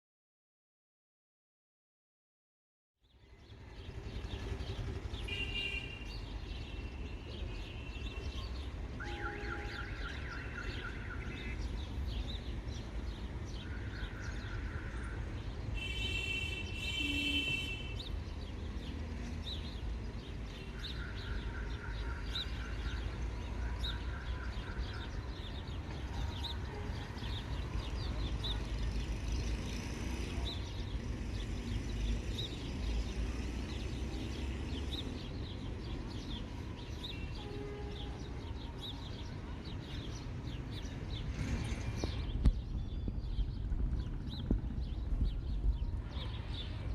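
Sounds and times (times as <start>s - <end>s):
birds chirping: 3.0s - 46.9s.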